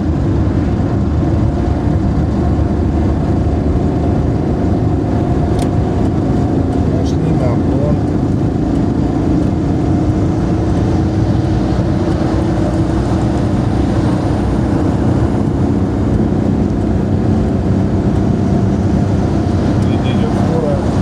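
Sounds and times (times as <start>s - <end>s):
car engine hum: 0.0s - 21.0s
tyre and wind noise: 0.0s - 21.0s.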